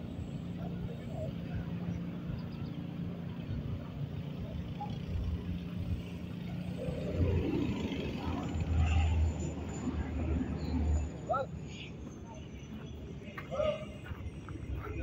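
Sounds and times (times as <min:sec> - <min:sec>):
turboprop engine droning: 0:00.0 - 0:15.0.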